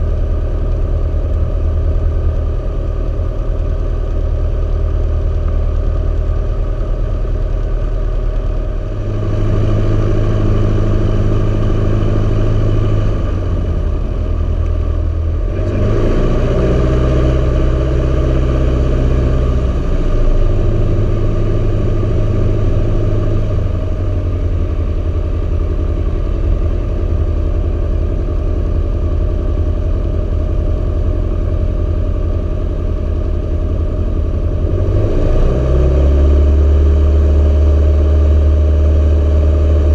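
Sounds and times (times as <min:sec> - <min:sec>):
aircraft engine and propeller running: 0:00.0 - 0:15.5, 0:16.2 - 0:39.9.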